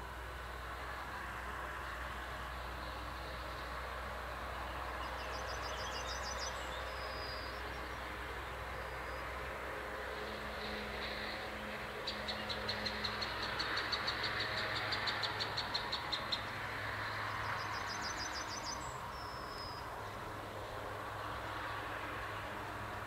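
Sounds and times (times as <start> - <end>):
distant train rushing: 0.0 - 23.0.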